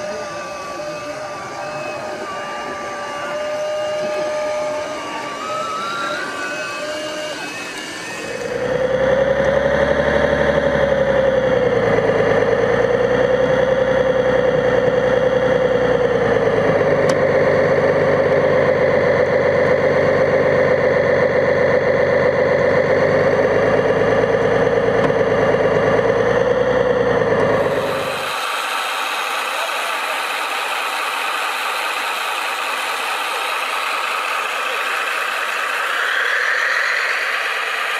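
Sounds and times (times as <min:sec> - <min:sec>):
engine-like machine drone: 0:00.0 - 0:37.9.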